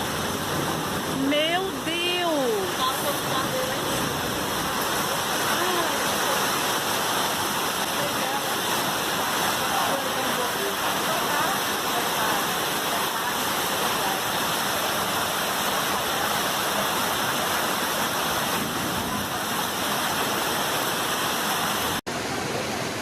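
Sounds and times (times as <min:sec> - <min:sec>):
heavy rain and running water: 0:00.0 - 0:23.0.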